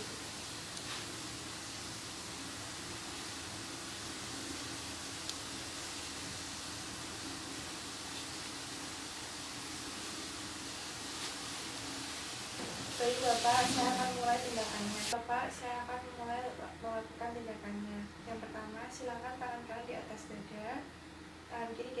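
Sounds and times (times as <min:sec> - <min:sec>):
room noise hiss: 0:00.0 - 0:22.0.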